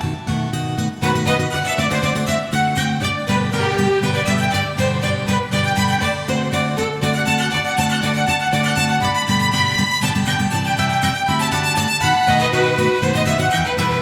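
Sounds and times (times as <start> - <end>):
instrumental music with violin melody: 0.0 - 14.0.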